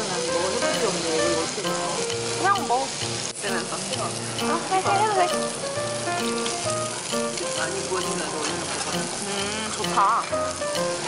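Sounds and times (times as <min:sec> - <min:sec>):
meat sizzling on a grill: 0:00.0 - 0:11.0
background music with a beat: 0:00.6 - 0:11.0.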